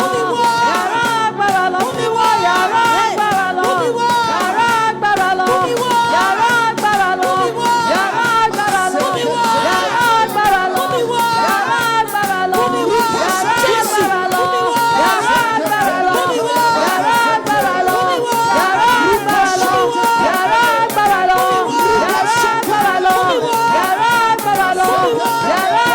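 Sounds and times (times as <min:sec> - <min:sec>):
drums and shakers beat: 0:00.0 - 0:25.9
person singing: 0:00.0 - 0:25.9.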